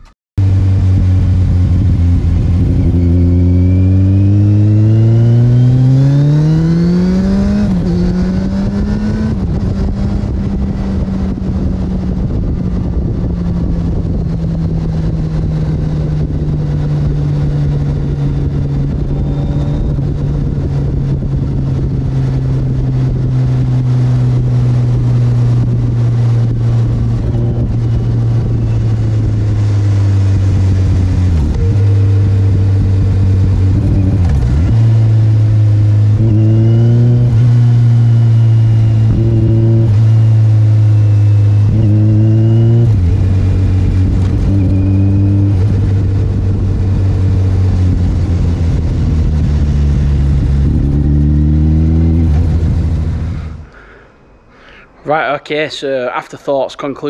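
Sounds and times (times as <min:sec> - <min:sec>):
motorcycle engine revving: 0:00.0 - 0:53.8.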